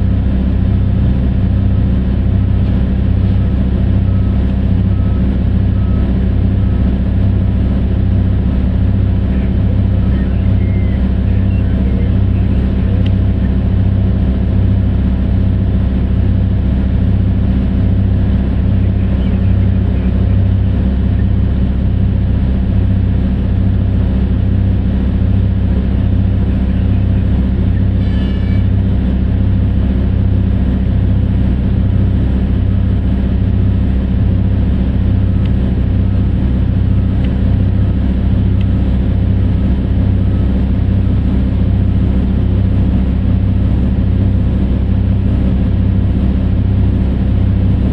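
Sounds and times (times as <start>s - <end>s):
large diesel engine rumbling: 0.0s - 47.9s.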